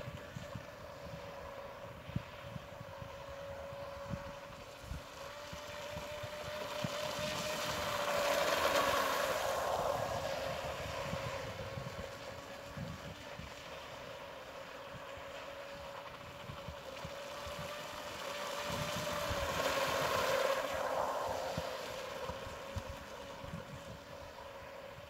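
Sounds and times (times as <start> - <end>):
electric boat motor whining: 0.0 - 25.0
wind buffeting microphone: 0.0 - 25.0.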